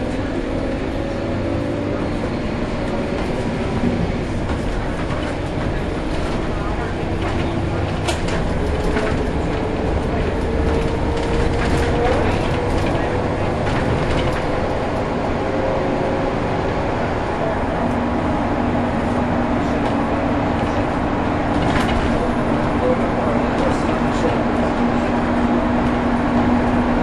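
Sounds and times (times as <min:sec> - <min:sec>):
bus engine and road drone: 0:00.0 - 0:27.0.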